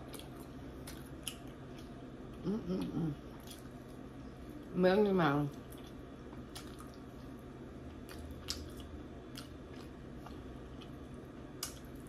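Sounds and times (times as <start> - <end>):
person chewing meat: 0.0 - 4.2, 5.6 - 12.0
faint low hum: 0.0 - 12.0.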